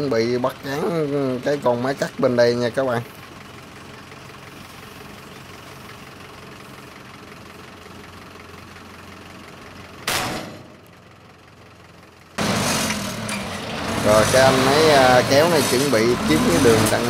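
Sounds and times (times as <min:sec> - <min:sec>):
farm machinery engine running: 0:00.1 - 0:17.0.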